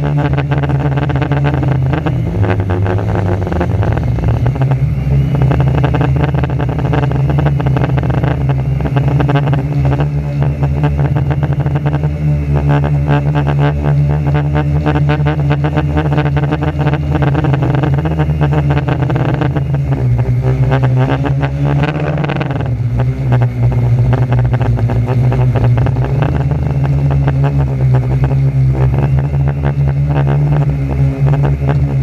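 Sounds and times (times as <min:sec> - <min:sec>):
quadcopter propellers droning: 0:00.0 - 0:32.0.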